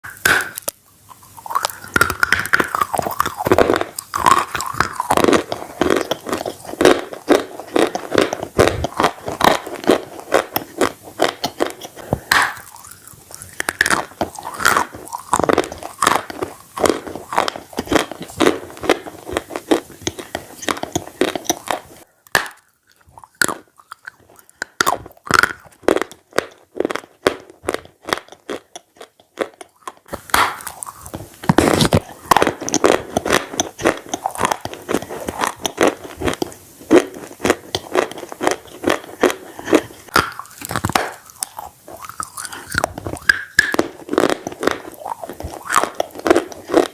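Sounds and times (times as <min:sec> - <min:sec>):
person chewing bread: 0:00.0 - 0:46.9.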